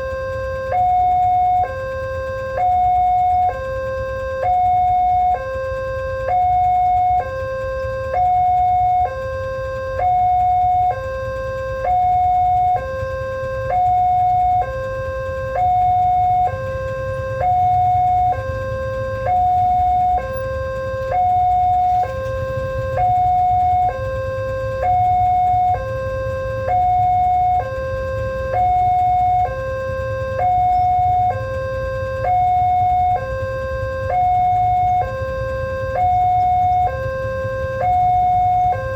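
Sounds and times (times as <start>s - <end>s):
level crossing two-tone alarm: 0.0s - 38.9s
steady low rumble: 0.0s - 38.9s.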